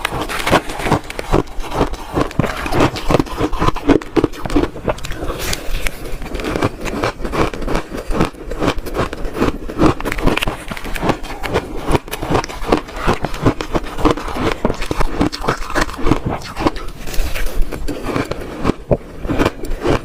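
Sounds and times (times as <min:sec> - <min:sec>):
shaved ice crunching: 0:00.0 - 0:20.0.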